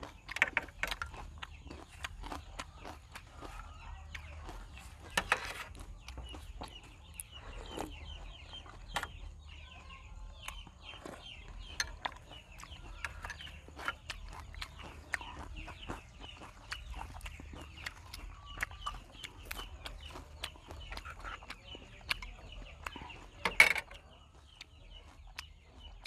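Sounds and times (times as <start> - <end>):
birds chirping: 0.0 - 26.0
person chewing: 0.0 - 26.0.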